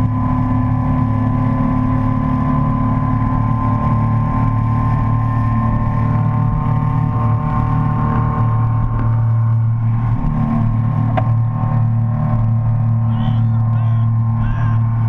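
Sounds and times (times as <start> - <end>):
motorboat engine drone: 0.0 - 15.0
rushing wake water: 0.0 - 15.0.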